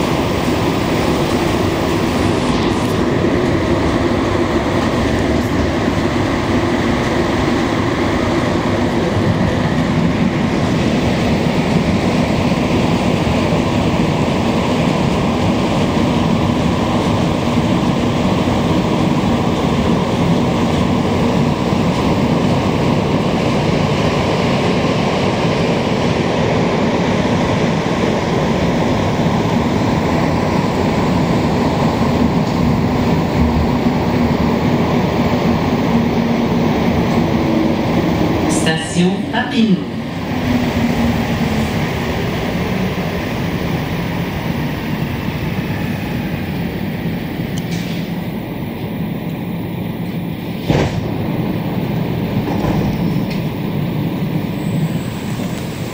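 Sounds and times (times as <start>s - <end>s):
metro train rumbling in tunnel: 0.0s - 55.9s.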